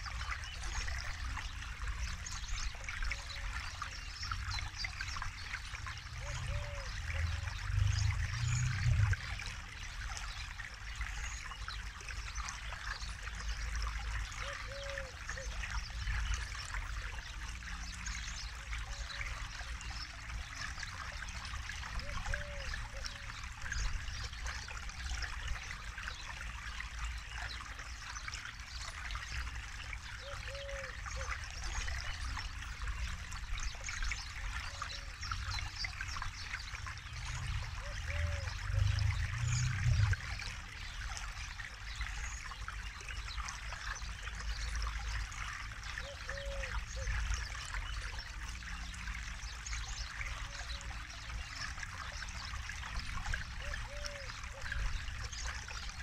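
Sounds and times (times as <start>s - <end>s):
river flowing and babbling: 0.0s - 56.0s.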